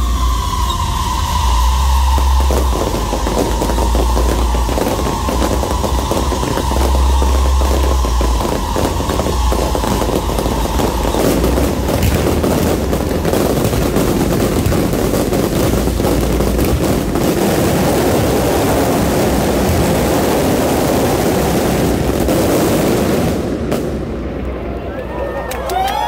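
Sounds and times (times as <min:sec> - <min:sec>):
fireworks crackling bursts: 0:00.0 - 0:26.0.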